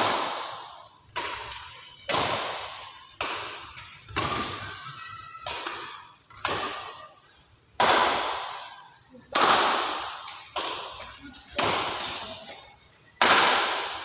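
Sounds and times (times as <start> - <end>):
rackets hitting shuttlecock: 0.0 - 14.0.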